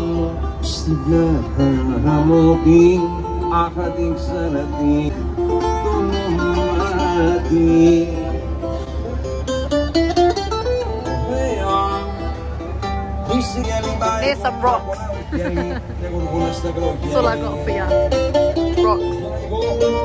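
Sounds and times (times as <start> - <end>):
plucked string melody: 0.0 - 20.0.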